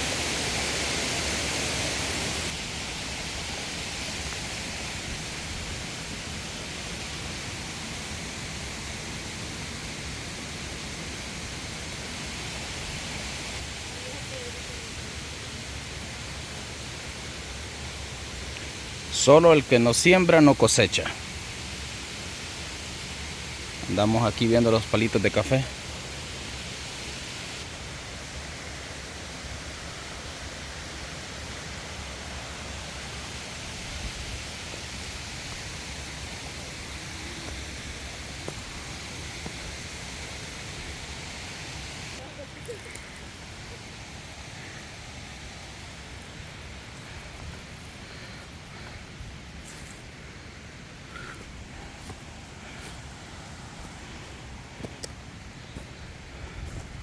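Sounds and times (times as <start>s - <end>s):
rushing hiss: 0.0s - 57.0s.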